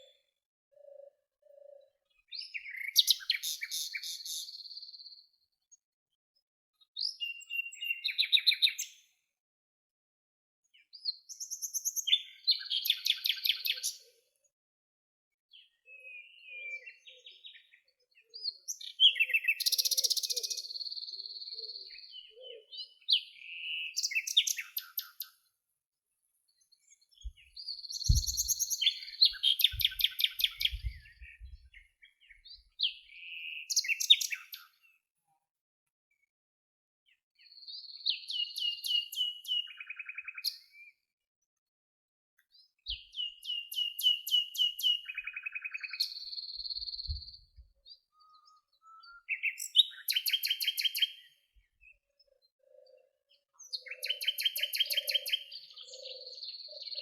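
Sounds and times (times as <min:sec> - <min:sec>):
songbird singing: 0:00.0 - 0:05.8, 0:06.8 - 0:09.2, 0:10.6 - 0:14.4, 0:15.5 - 0:25.4, 0:26.5 - 0:35.0, 0:37.1 - 0:41.0, 0:42.4 - 0:57.0.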